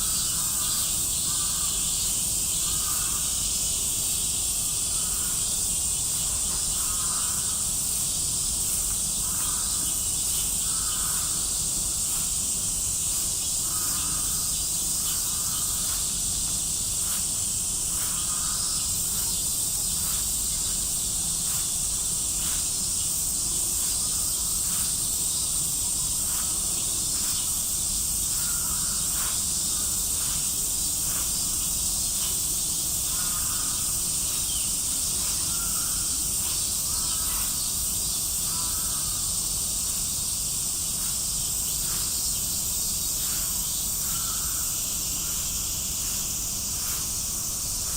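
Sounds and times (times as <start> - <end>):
cicada chorus buzzing: 0.0 - 47.9
lower insect call: 0.0 - 47.9.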